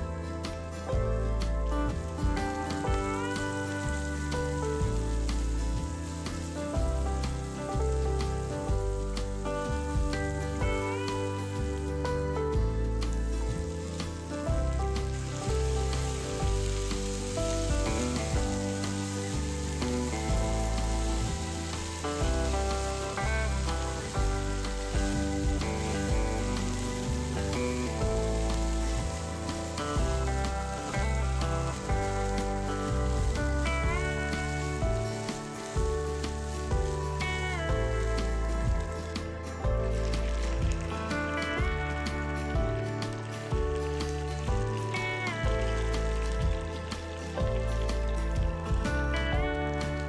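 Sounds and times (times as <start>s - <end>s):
background music: 0.0s - 50.0s
food sizzling in a pan: 1.9s - 48.8s.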